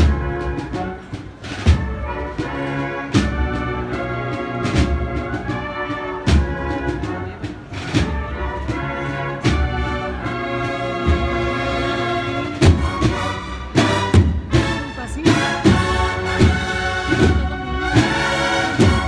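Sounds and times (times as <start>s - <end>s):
cornets playing slow march: 0.0s - 19.0s
heavy low drum strokes: 0.0s - 19.0s.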